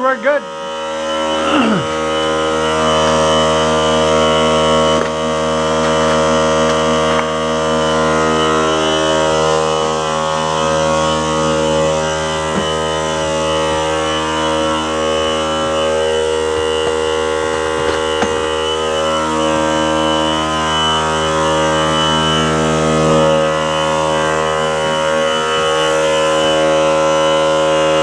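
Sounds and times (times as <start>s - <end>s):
air compressor humming: 0.0s - 28.0s.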